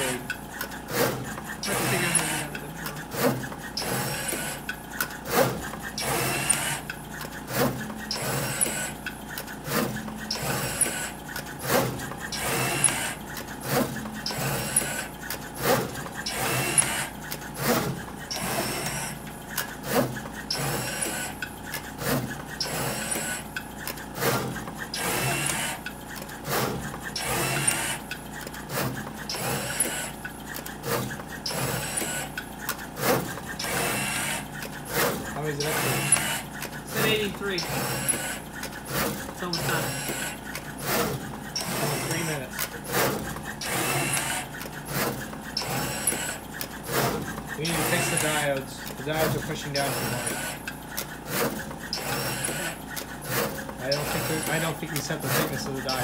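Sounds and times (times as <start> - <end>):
motors whirring: 0.0 - 56.0
sharp machine clicks: 0.0 - 56.0.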